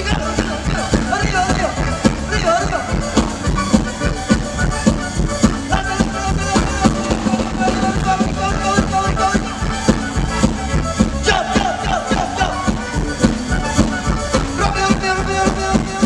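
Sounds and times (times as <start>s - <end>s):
lively accordion dance music: 0.0s - 16.0s.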